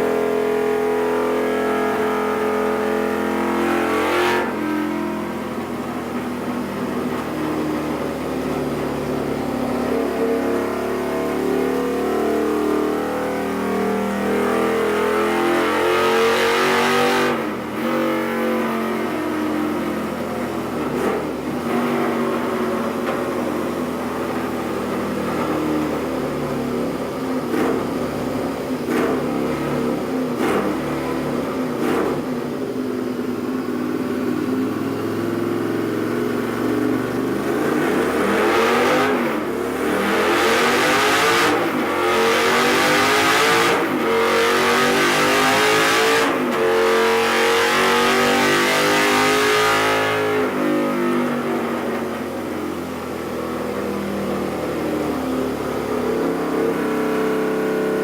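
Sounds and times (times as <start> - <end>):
motorcycle engine running and revving: 0.0 - 58.0.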